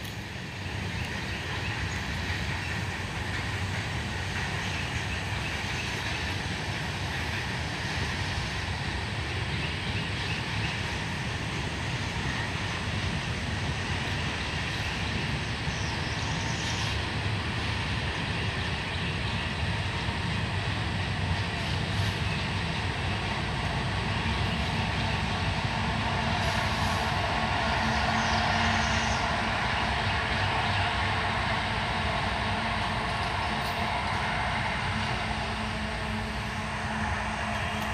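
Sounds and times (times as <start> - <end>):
locomotive engine drone: 0.0 - 37.9
train wheels rumbling on rail: 0.0 - 37.9.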